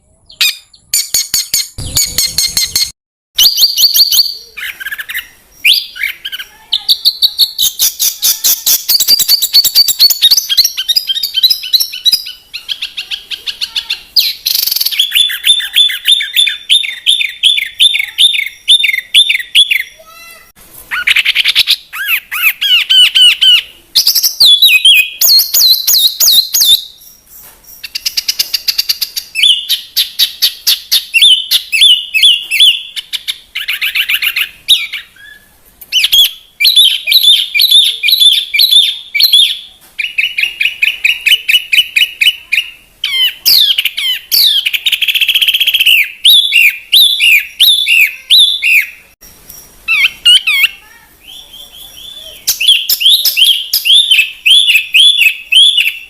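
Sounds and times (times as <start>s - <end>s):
songbird trills and chirps: 0.0s - 20.0s, 21.0s - 56.0s.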